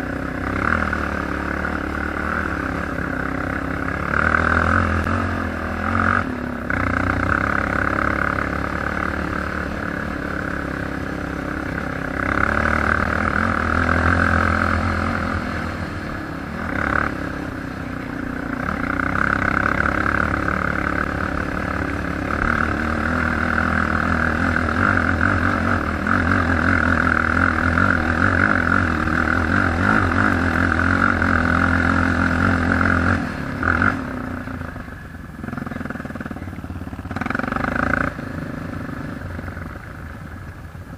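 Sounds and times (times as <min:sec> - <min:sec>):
atv engine droning: 0:00.0 - 0:40.9.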